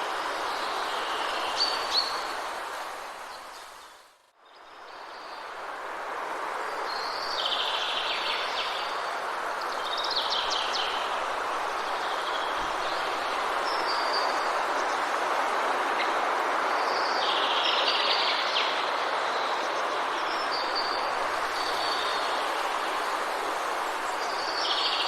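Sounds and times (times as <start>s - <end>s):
steady rain in a forest: 0.0s - 25.0s.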